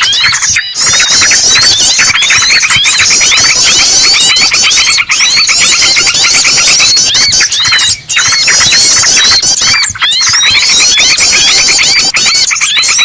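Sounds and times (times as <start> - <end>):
bird squealing distress calls: 0.0 - 13.0
bulbuls chattering: 0.0 - 13.0.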